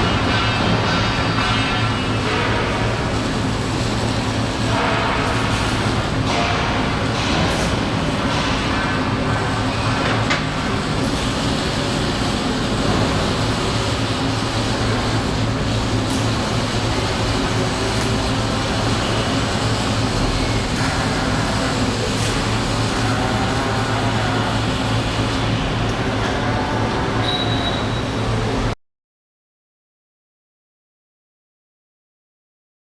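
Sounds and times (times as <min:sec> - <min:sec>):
low electrical hum: 0:00.0 - 0:28.8
workshop machine din: 0:00.0 - 0:28.8.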